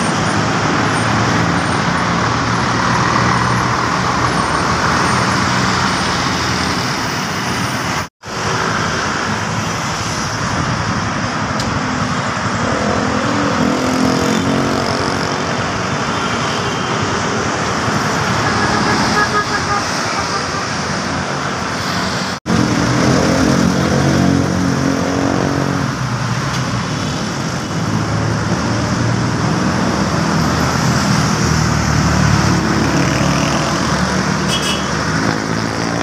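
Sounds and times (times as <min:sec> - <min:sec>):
city road traffic: 0:00.0 - 0:36.0.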